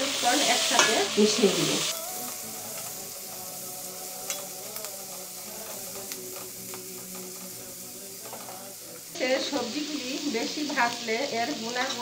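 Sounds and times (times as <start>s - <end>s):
food sizzling in a hot pan: 0.0s - 12.0s
spatula stirring food: 1.9s - 12.0s.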